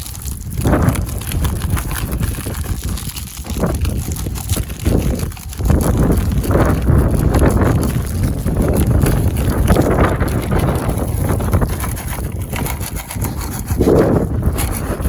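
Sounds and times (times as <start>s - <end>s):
footsteps crunching on ice: 0.0s - 15.0s
wind buffeting microphone: 0.0s - 15.0s.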